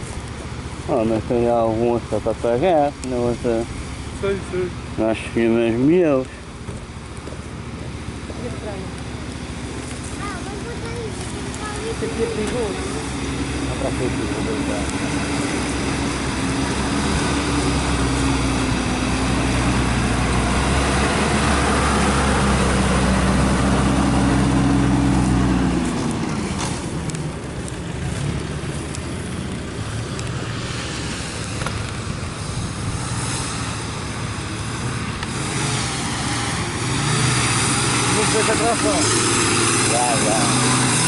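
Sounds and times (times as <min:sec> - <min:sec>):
vehicle and road background: 0:00.0 - 0:41.0
vehicle engine running: 0:00.0 - 0:41.0.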